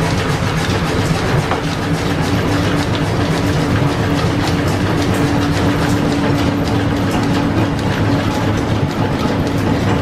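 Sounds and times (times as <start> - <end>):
lathe humming: 0.0 - 10.0
rapid clattering ticks: 0.0 - 10.0.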